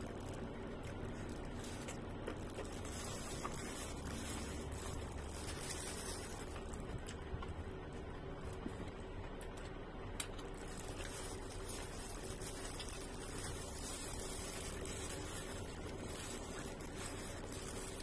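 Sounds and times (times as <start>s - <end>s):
background hum and hiss: 0.0s - 18.0s
person chewing food: 0.0s - 18.0s.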